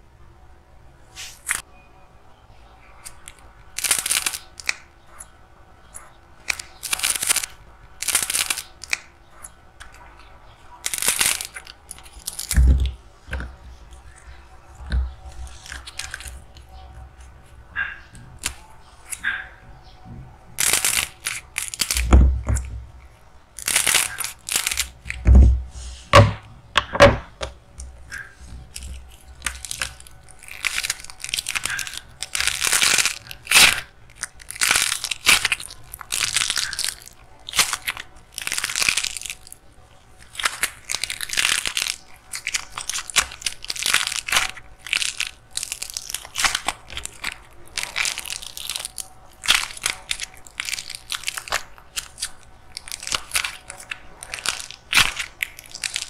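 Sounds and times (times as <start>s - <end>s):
dried clay crunching and crackling: 2.8s - 26.4s, 27.1s - 56.0s.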